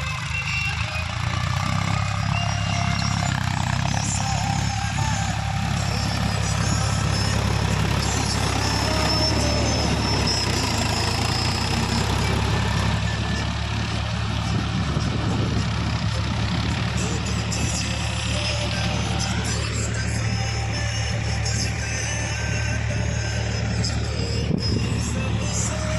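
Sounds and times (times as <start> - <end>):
tractor diesel engine running: 0.0 - 25.9.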